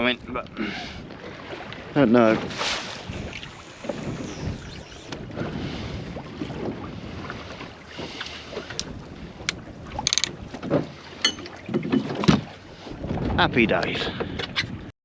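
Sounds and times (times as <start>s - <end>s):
wind buffeting microphone: 0.0s - 11.0s, 11.6s - 14.9s
water lapping against boat hull: 0.0s - 14.9s.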